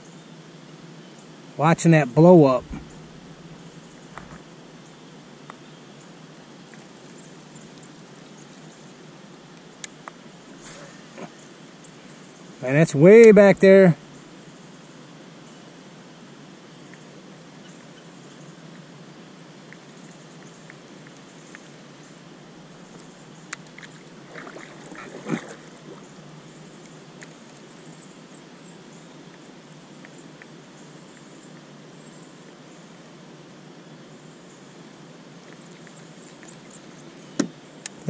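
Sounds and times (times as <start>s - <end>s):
low background hiss: 0.0s - 38.0s.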